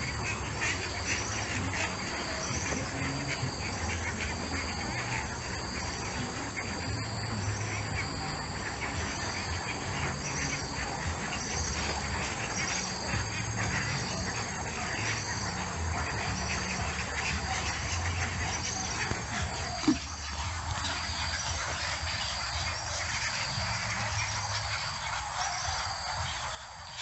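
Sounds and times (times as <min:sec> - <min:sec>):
animal calls: 0:00.0 - 0:27.0
insects trilling: 0:00.0 - 0:27.0.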